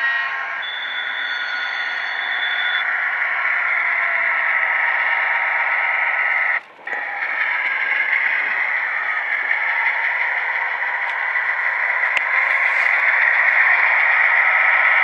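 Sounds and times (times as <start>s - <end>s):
tinny model locomotive engine sound: 0.0s - 15.0s.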